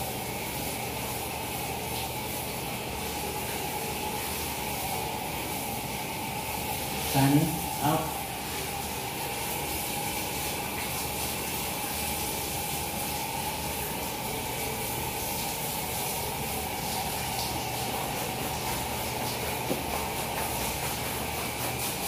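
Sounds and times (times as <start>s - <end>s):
water spraying from shower head: 0.0s - 22.0s.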